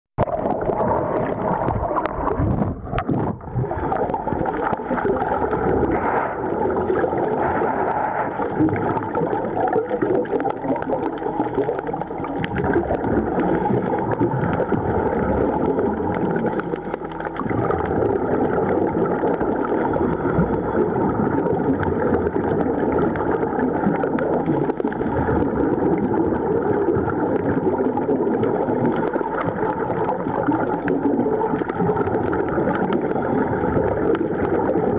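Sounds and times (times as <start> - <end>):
underwater air bubbles: 0.2 - 34.9.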